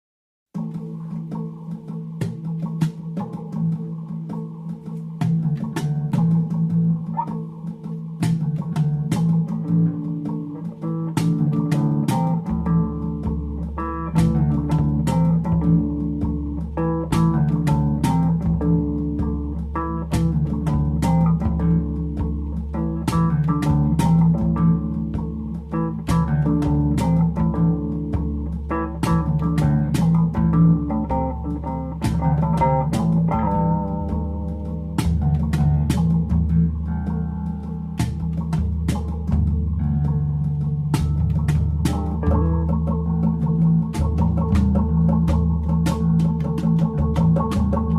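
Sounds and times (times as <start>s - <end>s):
instrumental guitar music with beat: 0.5s - 47.9s
deep bass line: 8.2s - 47.9s.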